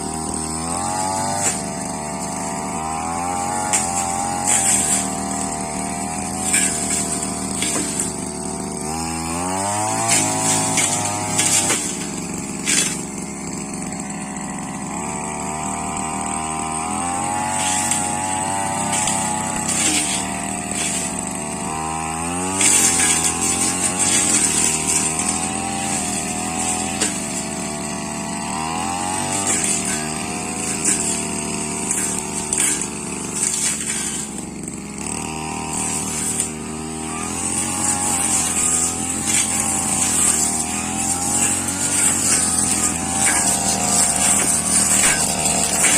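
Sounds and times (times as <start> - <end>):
blade cutting through grass: 0.0 - 45.9
brush cutter engine revving: 0.0 - 45.9.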